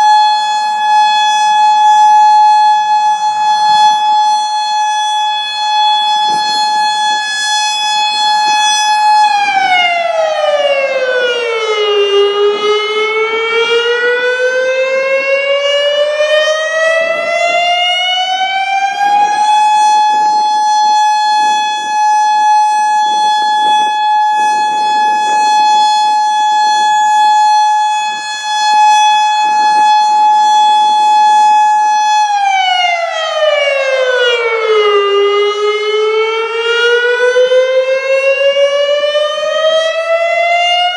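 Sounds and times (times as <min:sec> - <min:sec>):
electronic siren tone: 0:00.0 - 0:40.9.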